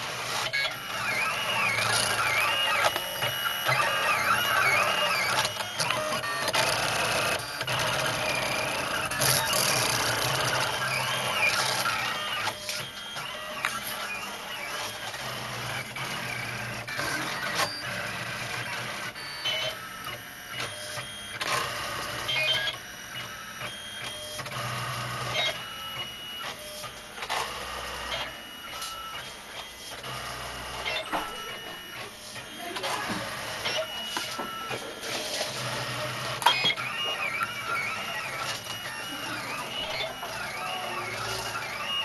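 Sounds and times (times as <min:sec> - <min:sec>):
stepper motors whining: 0:00.0 - 0:42.0.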